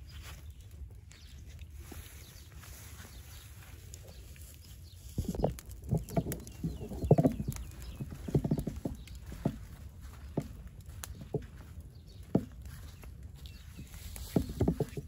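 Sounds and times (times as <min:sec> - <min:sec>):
straw burning and crackling: 0:00.0 - 0:15.0.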